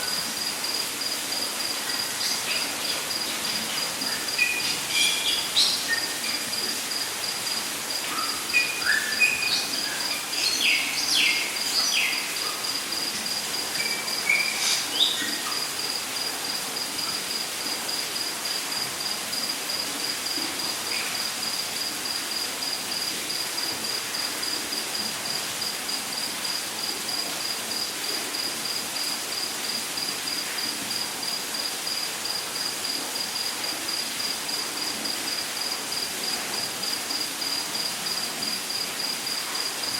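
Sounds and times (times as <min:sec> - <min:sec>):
insect chirping rapidly: 0:00.0 - 0:39.9.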